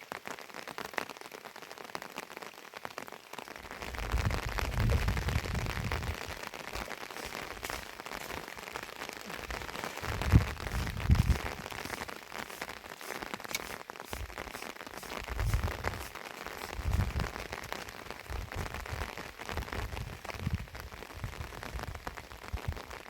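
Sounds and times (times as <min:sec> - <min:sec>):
heavy rain falling: 0:03.0 - 0:21.8.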